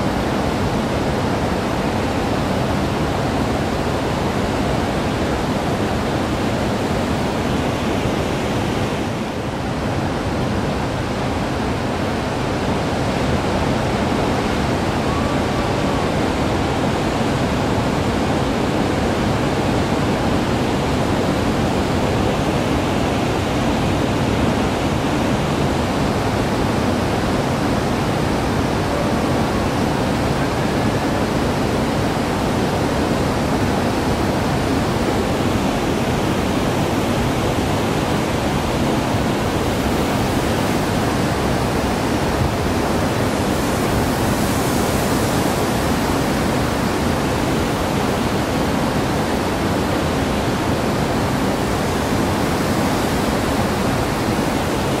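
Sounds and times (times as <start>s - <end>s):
ocean surf roaring: 0.0s - 55.0s.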